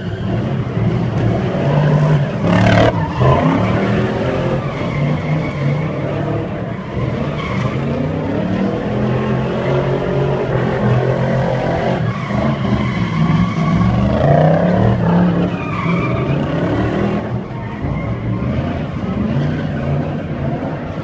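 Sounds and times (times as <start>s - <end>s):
tyres skidding: 0.0s - 21.0s.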